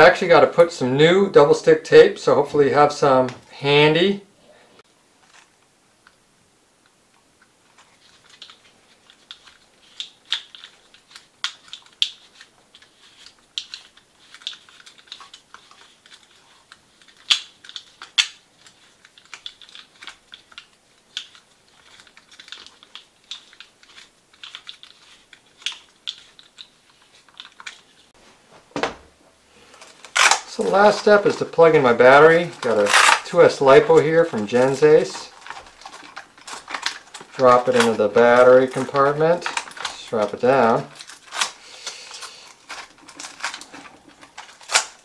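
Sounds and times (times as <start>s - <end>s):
hands handling small plastic parts: 7.2s - 28.1s, 29.6s - 45.0s.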